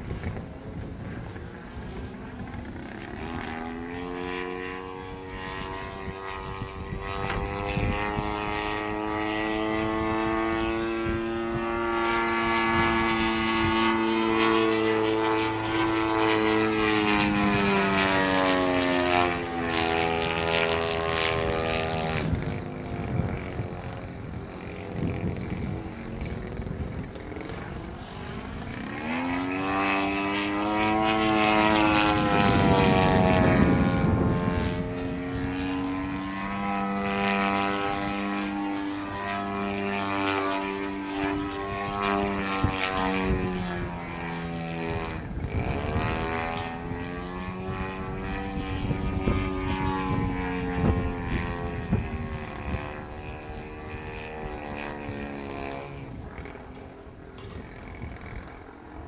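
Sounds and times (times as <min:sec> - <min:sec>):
model plane engine buzzing: 0:00.0 - 0:59.0.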